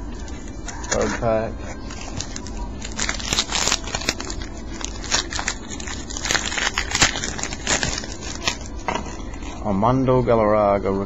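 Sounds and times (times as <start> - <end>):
wrapper being torn and crinkled: 0.6 - 9.7.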